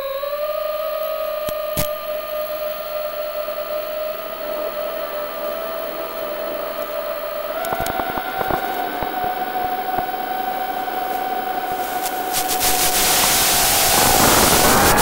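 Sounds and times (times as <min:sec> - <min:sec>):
quadcopter motors whining: 0:00.0 - 0:15.0
hiss: 0:00.4 - 0:15.0.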